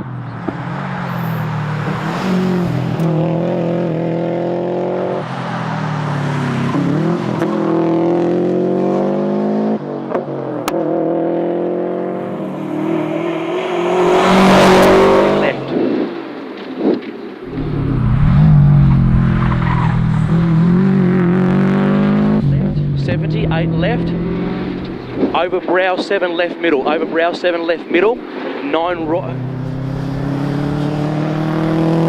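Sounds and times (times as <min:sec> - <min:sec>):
car engine accelerating hard: 0:00.2 - 0:16.0, 0:17.5 - 0:25.4, 0:29.0 - 0:32.0.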